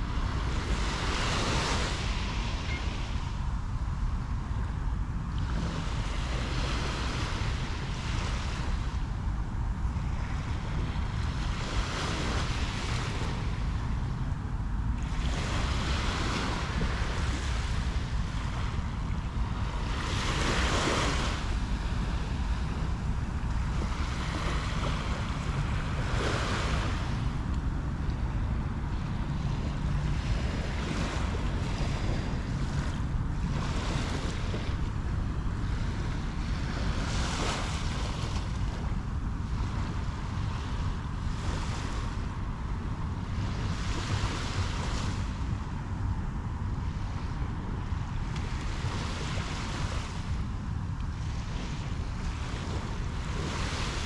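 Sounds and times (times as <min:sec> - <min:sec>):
surf hissing on beach: 0:00.0 - 0:54.0
wind rumble on microphone: 0:00.0 - 0:54.0.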